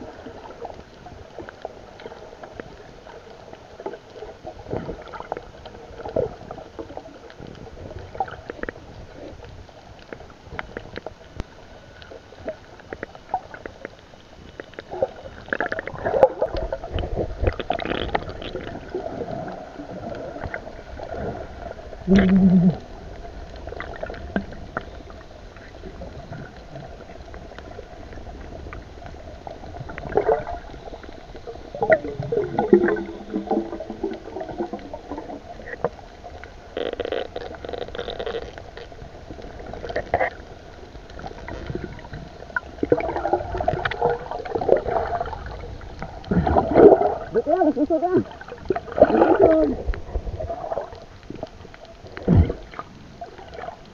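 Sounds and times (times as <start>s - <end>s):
underwater gurgling: 0.0s - 53.9s.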